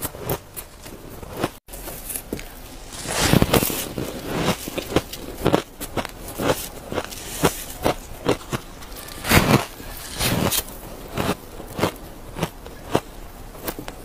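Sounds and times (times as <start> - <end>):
ice being crunched and chewed: 0.2 - 14.0.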